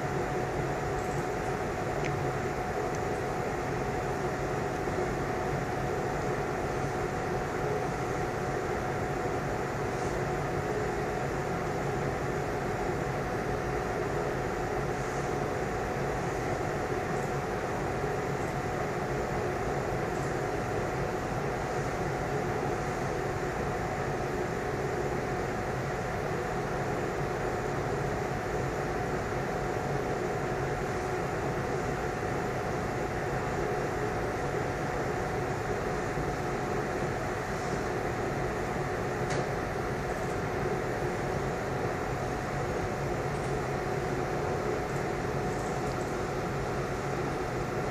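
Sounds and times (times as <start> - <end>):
background hum and hiss: 0.0 - 47.9
constant held tone: 0.0 - 47.9.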